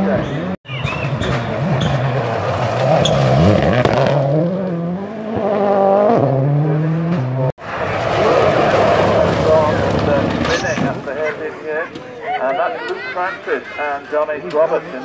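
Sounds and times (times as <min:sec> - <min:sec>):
rally car engines revving: 0:00.0 - 0:12.0.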